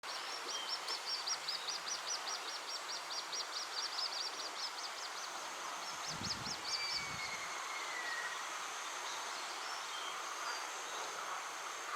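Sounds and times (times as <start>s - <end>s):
outdoor hiss: 0.0s - 11.9s.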